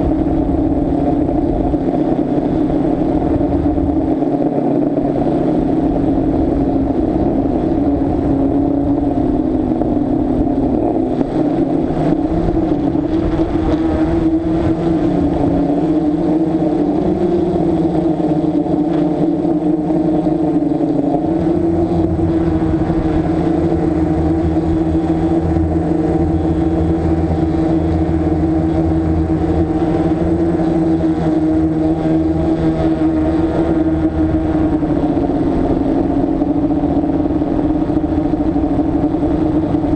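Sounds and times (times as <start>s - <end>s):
drone motors humming: 0.0s - 39.9s
low rumble: 0.0s - 39.9s.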